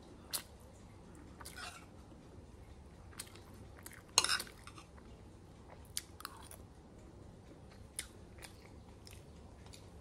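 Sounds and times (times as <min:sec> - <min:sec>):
person chewing food: 0:00.0 - 0:06.7, 0:07.4 - 0:10.0.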